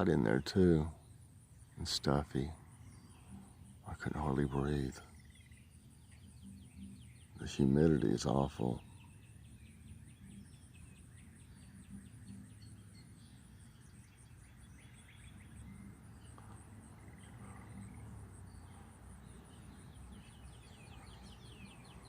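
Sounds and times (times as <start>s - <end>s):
crickets trilling: 0.0s - 22.0s
distant songbirds: 0.0s - 22.0s.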